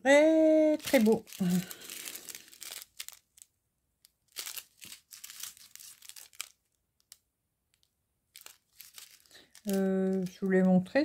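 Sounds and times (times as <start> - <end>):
plastic bags crinkling: 0.4 - 11.0.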